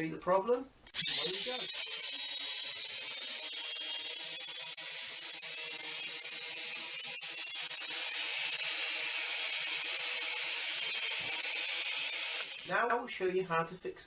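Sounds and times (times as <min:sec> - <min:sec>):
quadcopter motors whining: 0:00.9 - 0:12.8.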